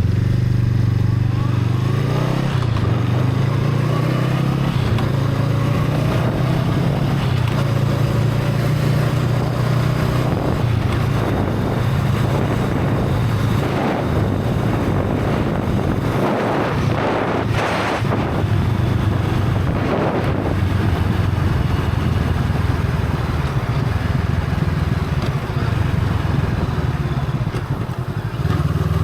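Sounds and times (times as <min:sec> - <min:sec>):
motorcycle engine cruising: 0:00.0 - 0:29.0
wind buffeting microphone: 0:02.3 - 0:28.5.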